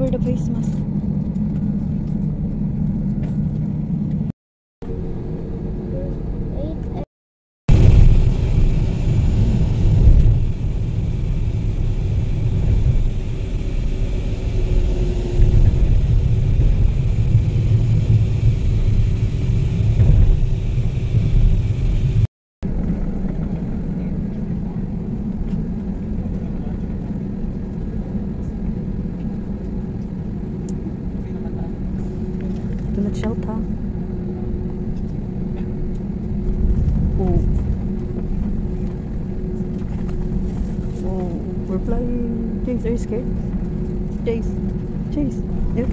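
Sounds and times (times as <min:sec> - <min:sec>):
airliner cabin hum: 0:00.0 - 0:07.1, 0:07.7 - 0:45.9
vehicle road and engine rumble: 0:00.0 - 0:07.1, 0:07.7 - 0:45.9.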